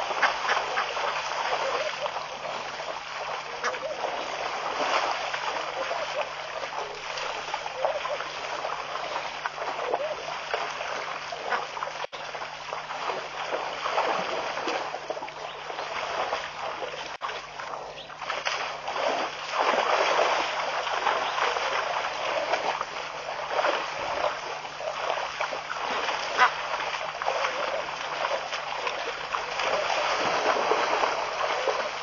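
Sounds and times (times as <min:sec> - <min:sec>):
water splashing and sloshing: 0:00.0 - 0:32.0.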